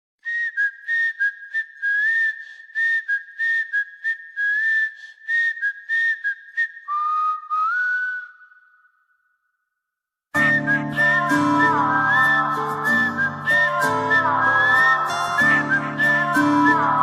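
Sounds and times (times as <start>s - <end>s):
person whistling a tune: 0.2s - 9.2s, 10.4s - 17.0s.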